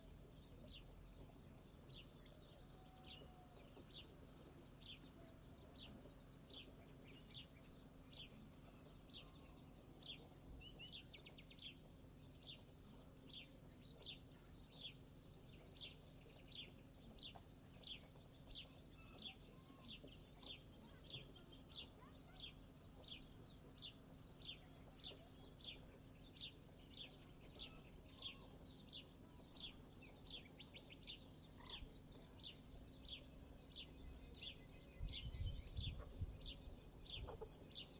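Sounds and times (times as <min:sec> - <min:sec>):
bird chirping: 0:00.0 - 0:37.9
low steady hum: 0:00.0 - 0:37.9.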